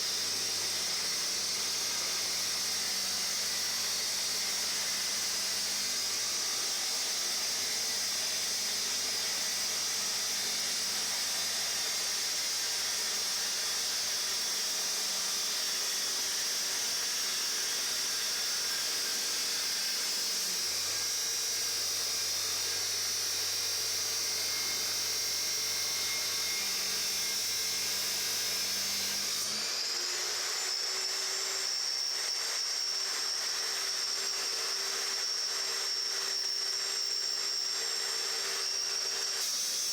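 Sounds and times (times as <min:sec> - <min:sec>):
chop saw cutting metal: 0:00.0 - 0:39.9.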